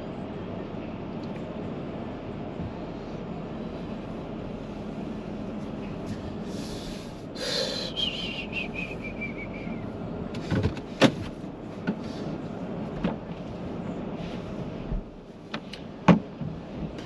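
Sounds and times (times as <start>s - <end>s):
vehicle hum: 0.0s - 17.0s.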